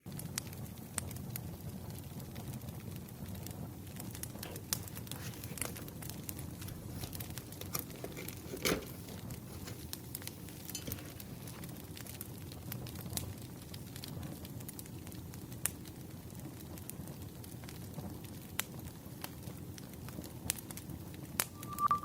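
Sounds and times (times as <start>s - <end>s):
low fire rumble: 0.1s - 21.4s
wood fire crackling and popping: 0.1s - 21.5s.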